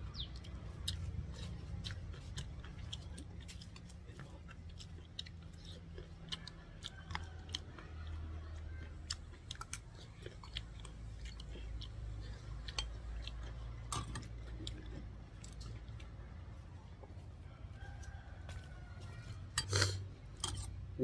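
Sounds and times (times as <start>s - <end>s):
chewing and crunching mango: 0.0s - 21.0s.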